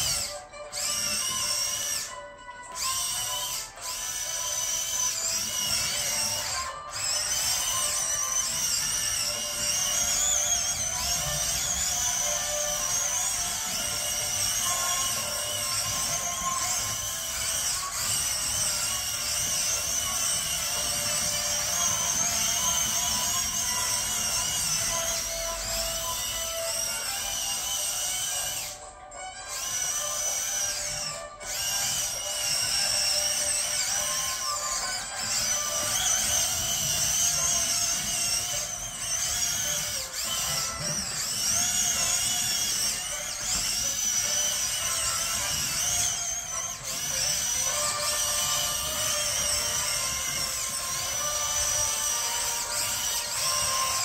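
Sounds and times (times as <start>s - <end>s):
high wavering whine: 0.0s - 54.0s
music: 0.0s - 54.0s
small electric motors whirring: 0.0s - 54.0s.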